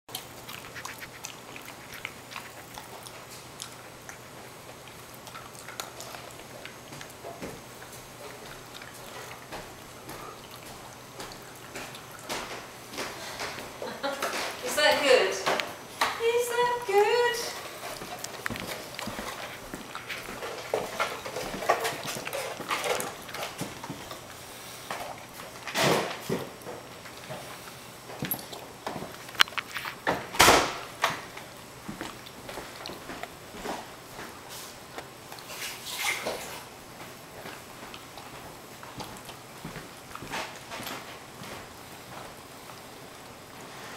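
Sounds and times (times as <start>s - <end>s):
dog chewing food: 0.1s - 43.9s.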